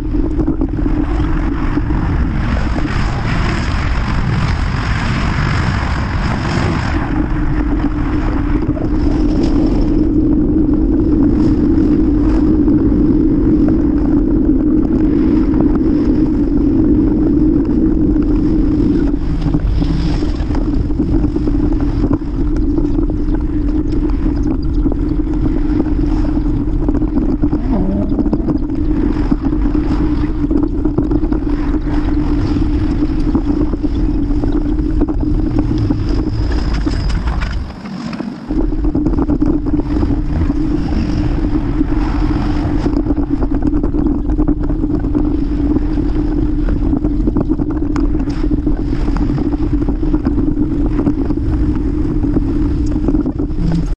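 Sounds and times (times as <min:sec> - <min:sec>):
steady low hum: 0:00.0 - 0:53.9
wind rumbling on microphone: 0:00.0 - 0:53.9.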